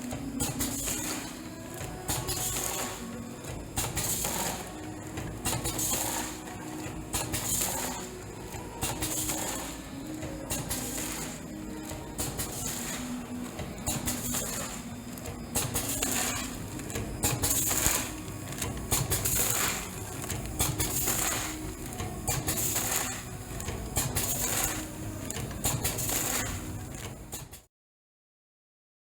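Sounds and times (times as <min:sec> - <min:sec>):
packing machine humming: 0:00.0 - 0:27.5.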